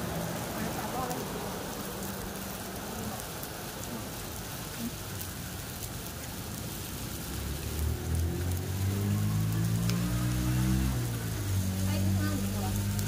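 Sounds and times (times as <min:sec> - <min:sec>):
light rain patter: 0:00.0 - 0:13.0.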